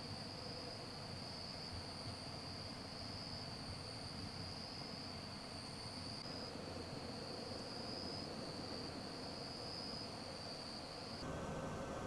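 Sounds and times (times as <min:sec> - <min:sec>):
insects trilling: 0:00.0 - 0:11.3.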